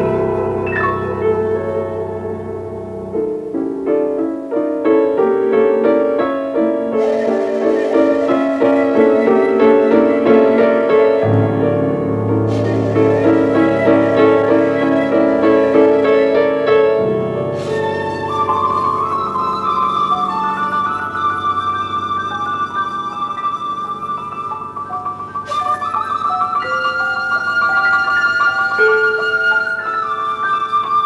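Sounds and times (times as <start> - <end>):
ambient piano music: 0.0 - 31.0.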